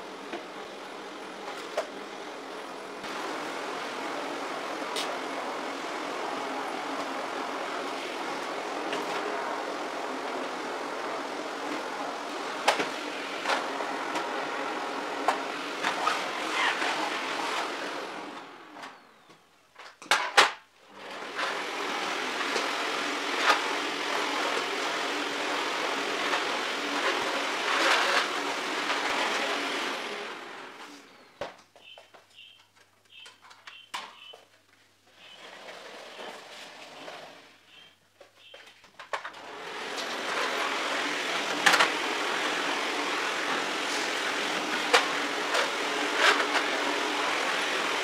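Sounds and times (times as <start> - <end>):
vacuum cleaner running: 0.0 - 19.5, 20.2 - 32.5, 35.1 - 48.0.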